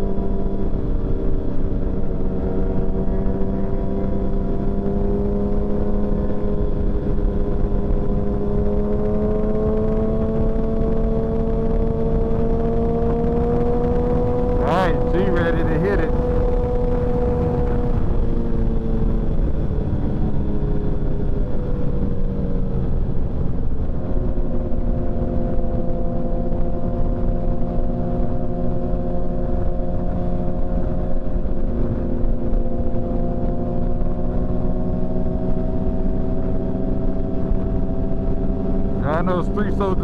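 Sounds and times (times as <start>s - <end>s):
wind rumbling on microphone: 0.0s - 39.0s
motorcycle engine cruising: 0.0s - 40.0s.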